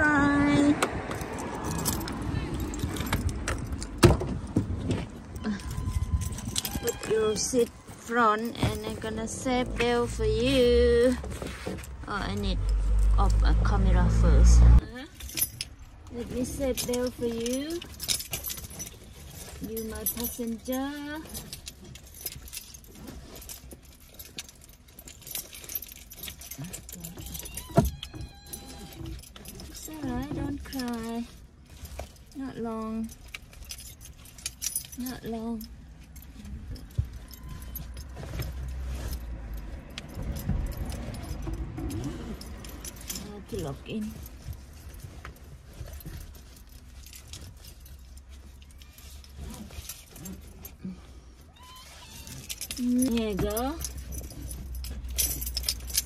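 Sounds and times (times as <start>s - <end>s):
buckle and zip pulls jingling: 0.0s - 56.0s
low steady rumble: 0.0s - 56.0s
rustling: 0.2s - 56.0s
keys jangling: 0.8s - 13.6s, 15.0s - 56.0s.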